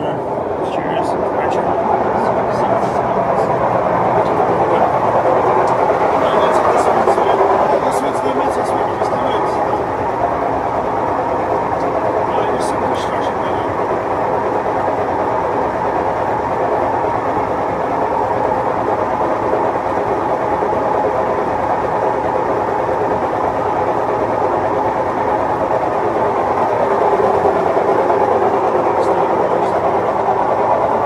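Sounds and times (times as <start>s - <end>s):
washing machine spinning: 0.0s - 31.0s.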